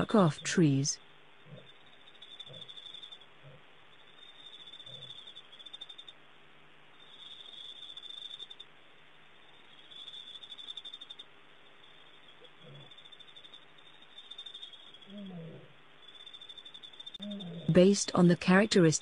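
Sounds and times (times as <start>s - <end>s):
insect trills: 0.0s - 19.0s.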